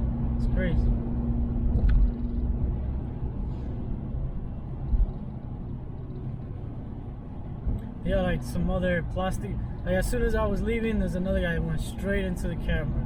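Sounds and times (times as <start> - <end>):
car rumble from inside: 0.0 - 13.0.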